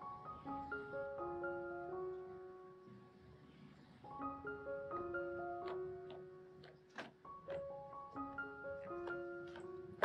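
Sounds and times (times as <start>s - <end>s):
keyboard melody: 0.0s - 3.0s, 4.0s - 10.0s.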